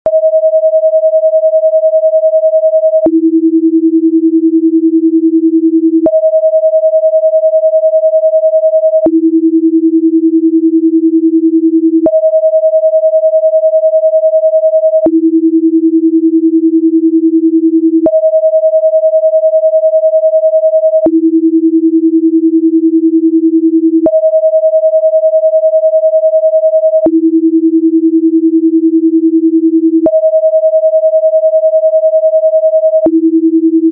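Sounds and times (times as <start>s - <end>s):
sine tones switching pitch: 0.1s - 10.4s, 11.2s - 16.4s, 17.0s - 22.4s, 23.9s - 33.9s.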